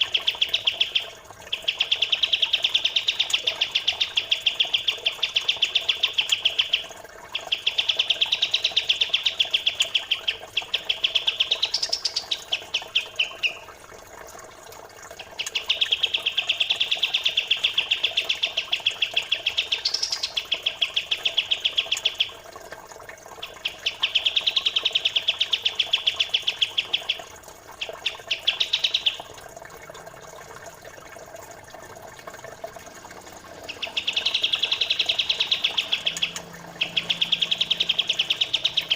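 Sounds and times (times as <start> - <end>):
songbird chattering trills: 0.0 - 13.7, 15.4 - 22.3, 23.4 - 29.3, 33.6 - 38.9
faint running water: 0.0 - 38.9.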